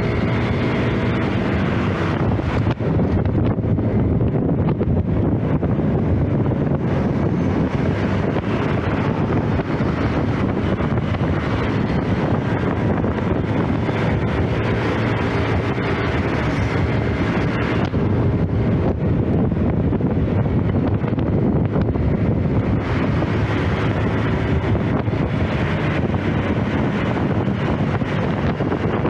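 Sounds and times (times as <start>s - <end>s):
scooter engine running: 0.0s - 29.0s
wind buffeting microphone: 0.0s - 29.0s.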